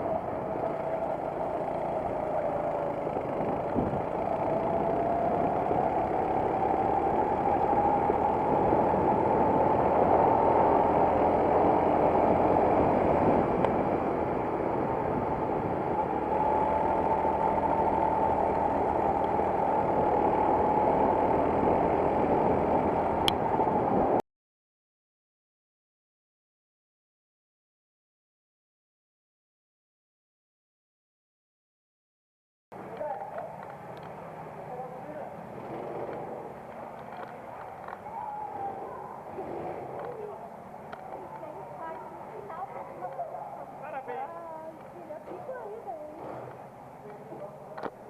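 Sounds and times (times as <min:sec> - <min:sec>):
kart engine at speed: 0:00.0 - 0:24.2, 0:32.8 - 0:48.0.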